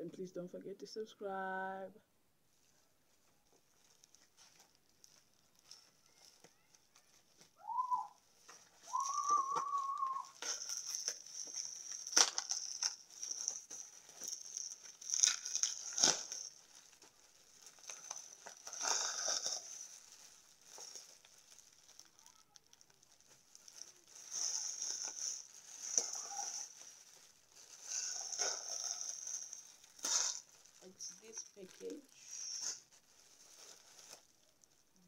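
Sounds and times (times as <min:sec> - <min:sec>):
plastic mailing bag crinkling: 0:03.1 - 0:35.0.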